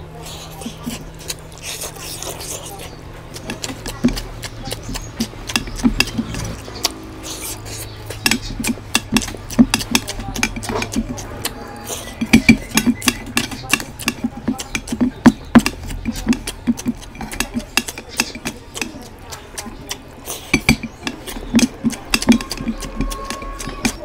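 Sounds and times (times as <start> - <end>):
wet chewing and lip-smacking: 0.0 - 24.0.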